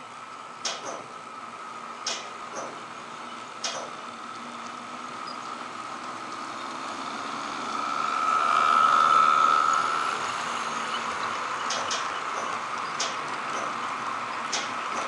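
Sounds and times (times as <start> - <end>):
model train motors whining: 0.0 - 15.0.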